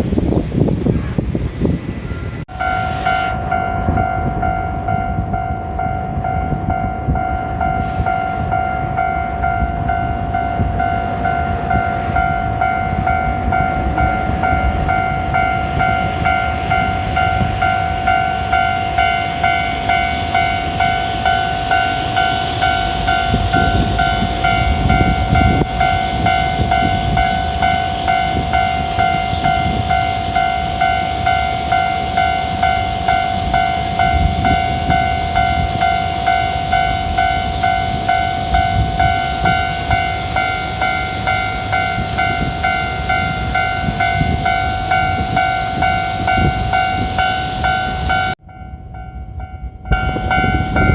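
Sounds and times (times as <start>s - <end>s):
level crossing warning bell: 2.0s - 50.9s.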